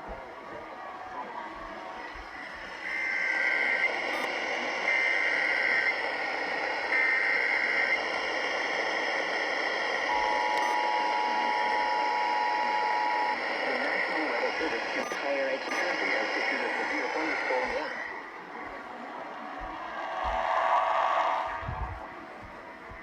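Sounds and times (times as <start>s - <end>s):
warbling data tones: 1.9s - 22.3s.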